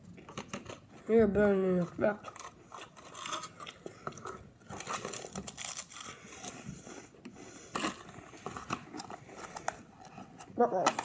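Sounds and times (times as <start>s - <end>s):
crinkling and rustling handling noises: 0.0s - 11.0s.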